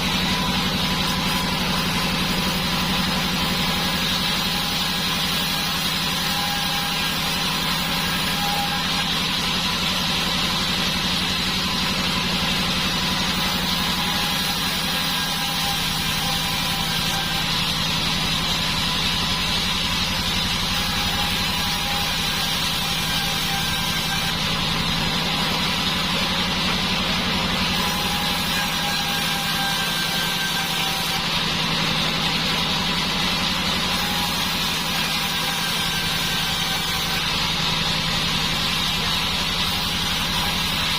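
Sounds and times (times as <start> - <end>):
band saw machine drone: 0.0 - 40.9.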